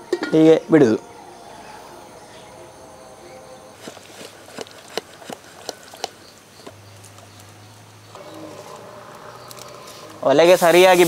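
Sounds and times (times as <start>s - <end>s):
low steady hum: 0.0s - 10.4s.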